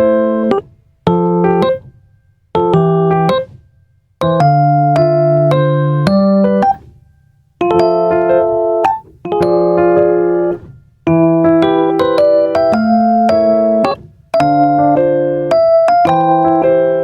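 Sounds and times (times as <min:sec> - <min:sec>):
electric piano chords: 0:00.0 - 0:03.6, 0:04.2 - 0:06.8, 0:07.6 - 0:17.0.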